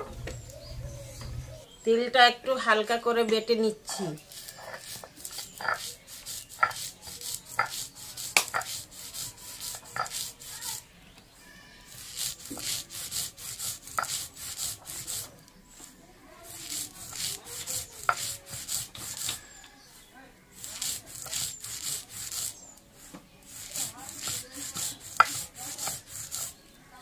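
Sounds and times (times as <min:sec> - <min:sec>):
stone roller scraping seeds: 0:03.9 - 0:10.9, 0:11.9 - 0:26.8.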